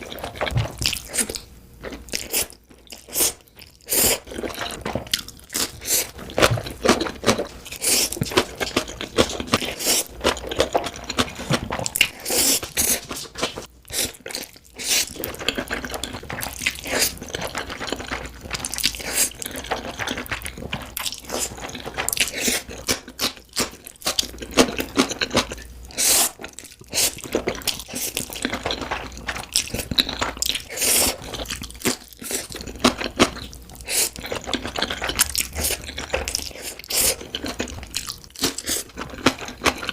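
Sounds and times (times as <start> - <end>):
chewing with crunchy bites: 0.0 - 39.9.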